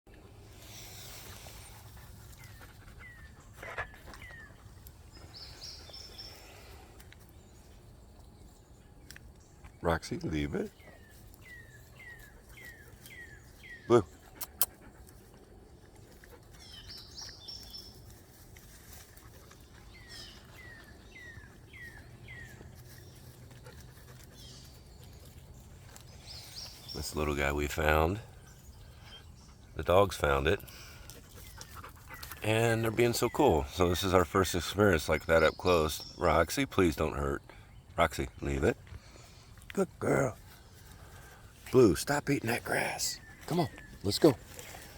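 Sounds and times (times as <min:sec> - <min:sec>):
birds chirping: 0:00.1 - 0:44.9.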